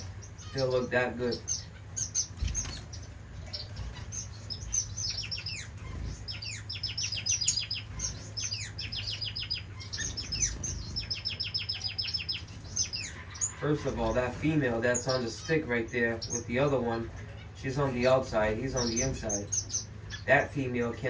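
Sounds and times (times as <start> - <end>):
faint low hum: 0.0 - 21.0
finches chirping: 0.0 - 21.0.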